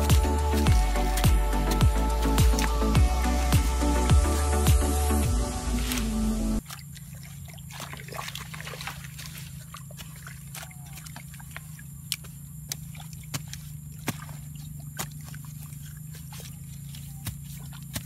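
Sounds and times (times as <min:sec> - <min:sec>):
steady low hum: 0:00.0 - 0:18.0
water sloshing from hand work: 0:00.0 - 0:18.0.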